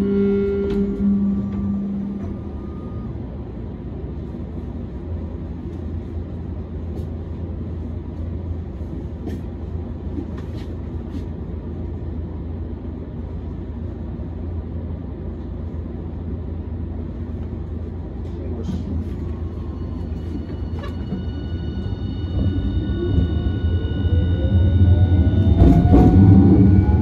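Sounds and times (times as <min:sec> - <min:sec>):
tram cabin hum and rumble: 0:00.0 - 0:27.0.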